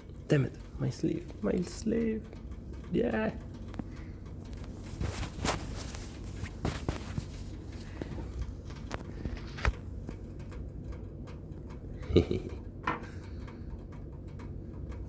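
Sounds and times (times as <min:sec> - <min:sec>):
steady low hum: 0:00.0 - 0:15.0
hand tools clicking and tapping: 0:01.2 - 0:15.0.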